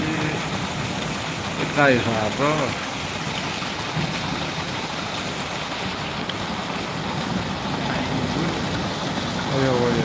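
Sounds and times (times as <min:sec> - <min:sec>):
water rushing over gravel: 0:00.0 - 0:10.0.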